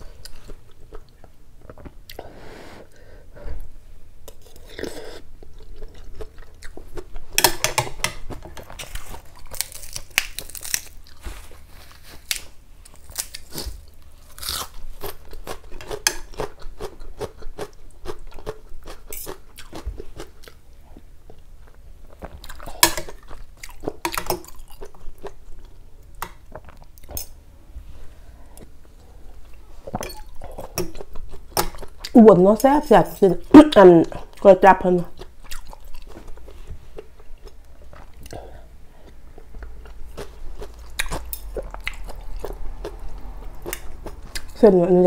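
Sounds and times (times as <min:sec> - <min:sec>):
chewing and crunching food: 0:04.3 - 0:27.4, 0:28.4 - 0:44.6.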